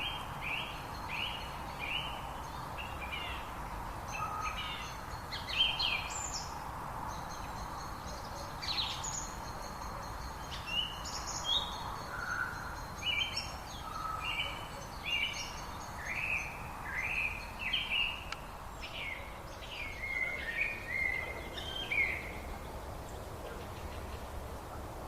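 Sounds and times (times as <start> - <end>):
low background noise: 0.0 - 25.0
songbirds singing: 0.0 - 25.0.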